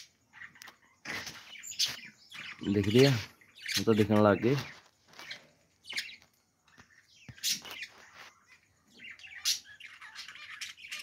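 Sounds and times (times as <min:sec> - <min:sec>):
budgerigars chirping: 0:00.0 - 0:11.0.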